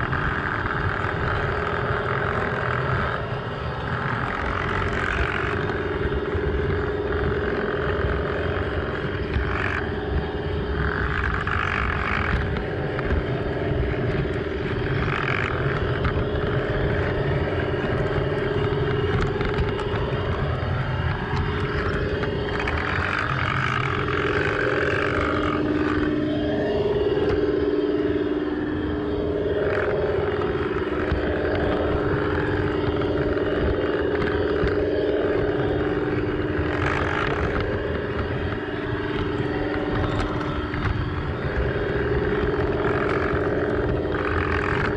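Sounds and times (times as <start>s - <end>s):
model train motor whining: 0.0s - 44.9s
wheels rumbling on track: 0.0s - 44.9s.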